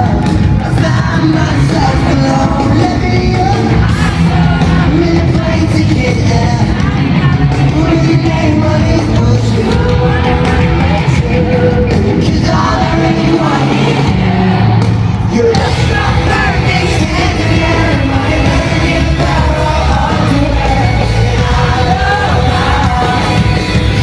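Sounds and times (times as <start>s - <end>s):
crowd yelling and singing along: 0.0s - 24.0s
pop-punk band playing live: 0.0s - 24.0s.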